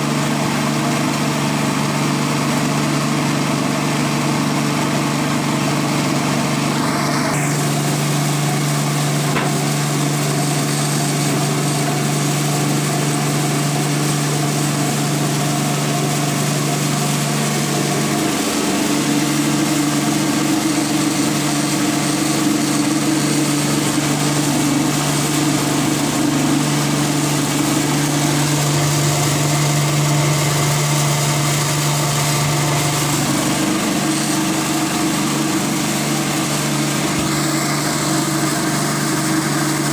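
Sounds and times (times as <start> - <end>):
grain rushing through machine: 0.0 - 39.9
rice mill mechanical hum: 0.0 - 39.9.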